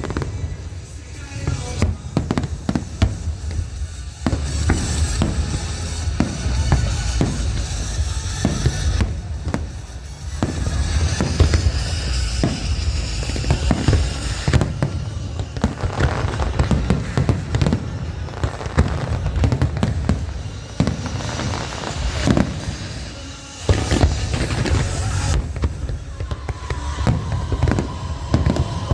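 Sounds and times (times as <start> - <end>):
fireworks bangs and crackling: 0.0 - 28.9
music playing: 0.0 - 28.9.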